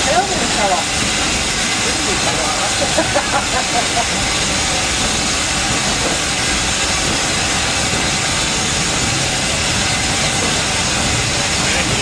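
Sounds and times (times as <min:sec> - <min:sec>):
locomotive hissing steam: 0:00.0 - 0:12.0
low train rumble: 0:00.0 - 0:12.0.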